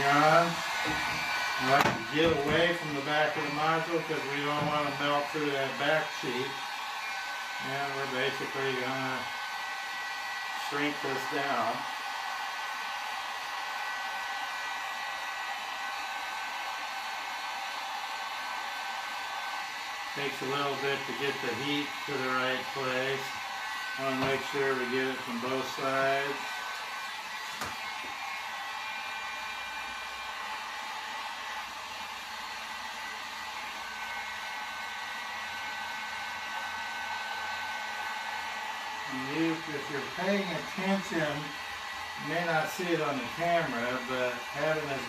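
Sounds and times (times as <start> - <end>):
heat gun blowing air: 0.0 - 45.0.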